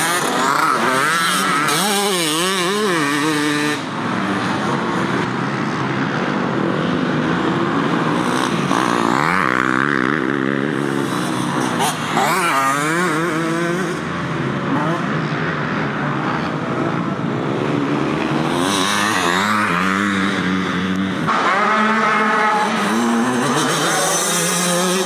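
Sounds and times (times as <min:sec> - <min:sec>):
dirt bike engines racing: 0:00.0 - 0:25.0.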